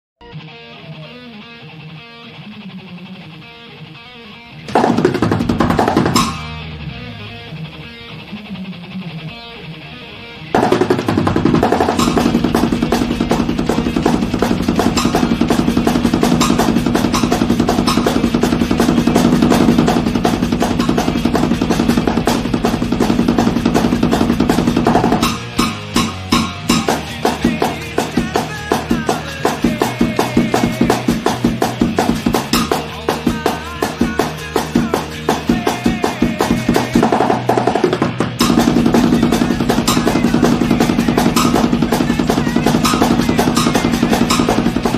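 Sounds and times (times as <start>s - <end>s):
drums: 0.2s - 44.9s
rock music with guitar: 0.2s - 44.9s.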